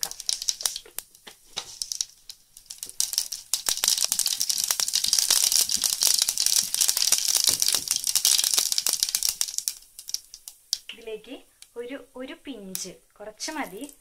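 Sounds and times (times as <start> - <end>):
seeds popping in hot oil: 0.0 - 14.0.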